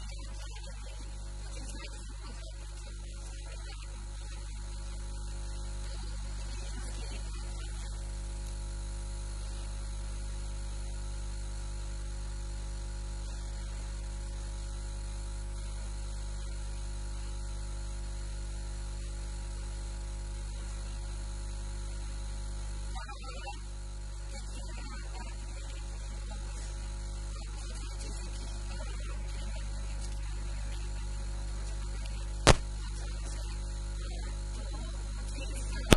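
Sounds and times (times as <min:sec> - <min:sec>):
electrical mains hum: 0:00.0 - 0:35.9.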